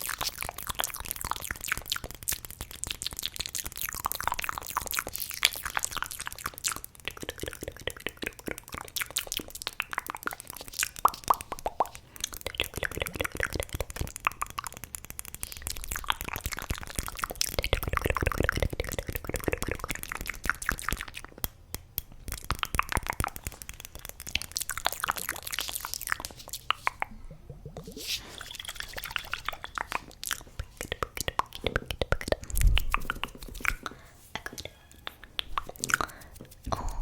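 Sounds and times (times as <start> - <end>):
wet mouth clicks and pops: 0.0 - 37.0.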